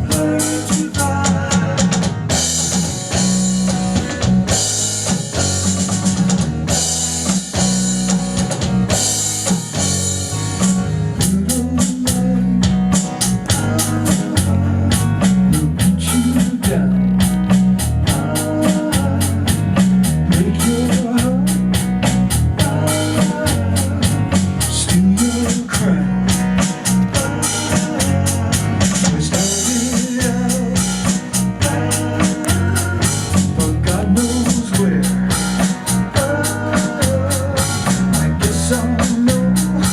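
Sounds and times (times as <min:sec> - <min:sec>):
band playing instrumental groove: 0:00.0 - 0:39.9
drums ticking: 0:00.0 - 0:39.9.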